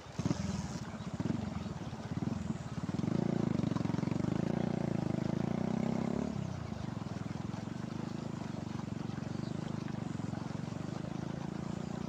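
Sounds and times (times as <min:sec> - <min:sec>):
engine running with even putter: 0:00.0 - 0:12.0.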